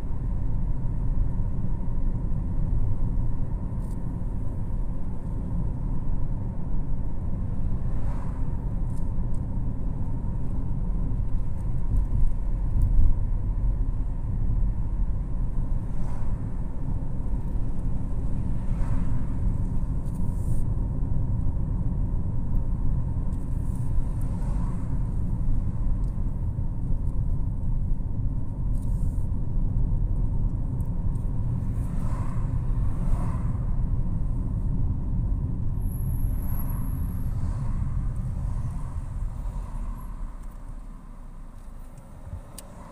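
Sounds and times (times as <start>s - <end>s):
engine and tyre rumble inside car: 0.0s - 42.9s.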